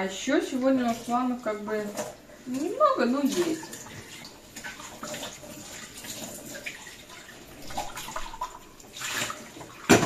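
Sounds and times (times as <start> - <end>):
water splashing into steel sink: 0.1 - 10.0.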